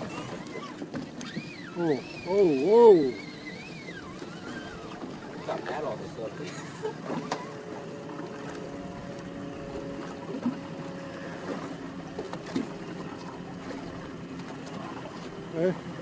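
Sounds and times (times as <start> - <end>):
boat engines humming: 0.0 - 16.0.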